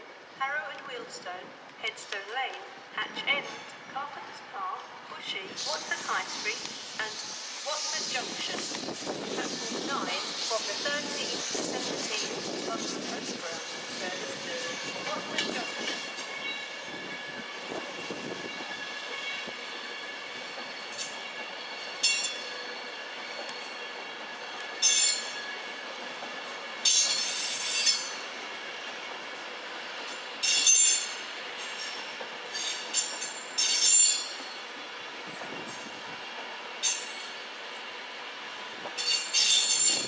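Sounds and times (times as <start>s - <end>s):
electric train rumbling: 0.0s - 40.0s
train wheels squealing: 5.6s - 28.8s, 29.9s - 40.0s.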